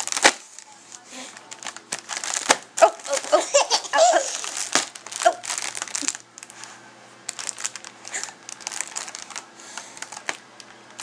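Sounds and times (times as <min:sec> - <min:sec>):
crinkly wrapping rustling: 0:00.0 - 0:11.0.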